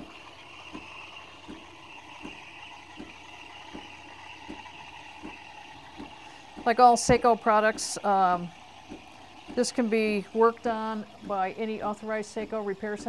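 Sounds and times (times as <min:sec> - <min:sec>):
soft thumps from machine: 0:00.0 - 0:08.0, 0:08.8 - 0:13.0
milk steaming hiss and gurgle: 0:00.0 - 0:13.0.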